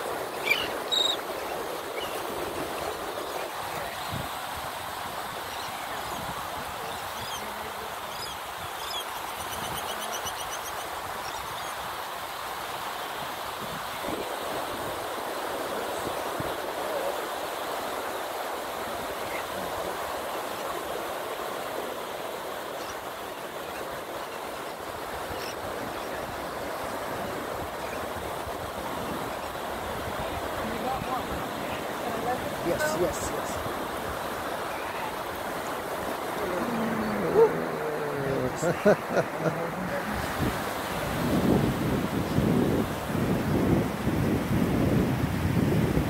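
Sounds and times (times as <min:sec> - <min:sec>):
ocean surf rushing: 0:00.0 - 0:09.0, 0:10.9 - 0:46.0.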